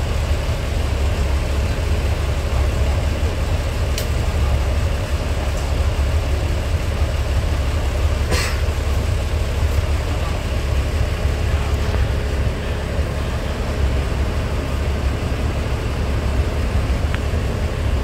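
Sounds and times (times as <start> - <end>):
diesel railcar engine rumbling: 0.0 - 18.0.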